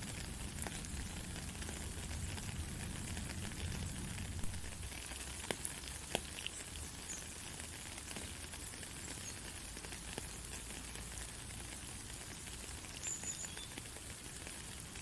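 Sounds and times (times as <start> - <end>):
sharp raindrops landing close: 0.0 - 15.0.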